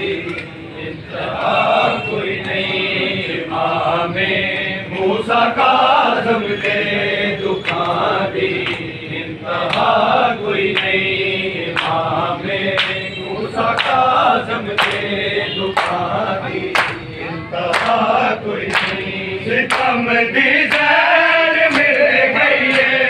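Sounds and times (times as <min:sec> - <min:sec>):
men chanting a lament: 0:00.0 - 0:23.0.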